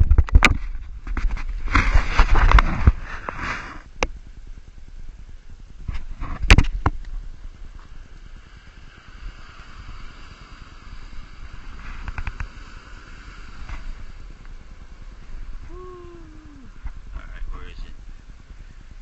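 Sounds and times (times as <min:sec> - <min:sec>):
low rumble on microphone: 0:00.0 - 0:19.0
soft hiss: 0:00.7 - 0:19.0.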